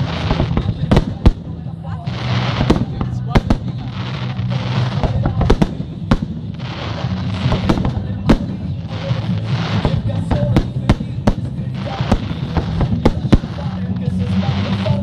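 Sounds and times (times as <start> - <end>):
fireworks bursting with sharp bangs: 0.0 - 15.0
fireworks crackling: 0.0 - 15.0.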